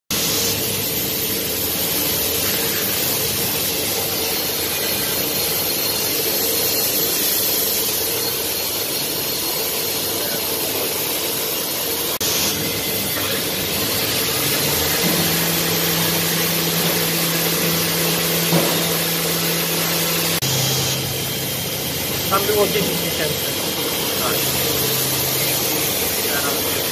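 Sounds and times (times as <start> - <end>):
loud hiss: 0.1 - 26.9
machine mechanical hum: 0.1 - 26.9.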